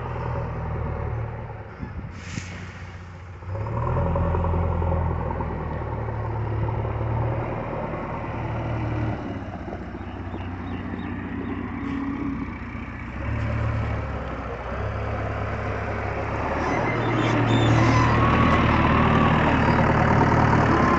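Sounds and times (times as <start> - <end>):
diesel engine revving: 0.0 - 20.9.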